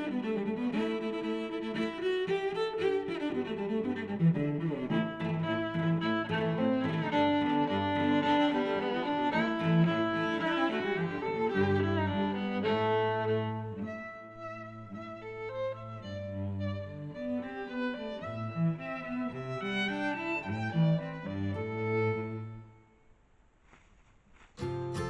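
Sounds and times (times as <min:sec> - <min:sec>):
bowed strings music: 0:00.0 - 0:22.9, 0:24.6 - 0:25.0.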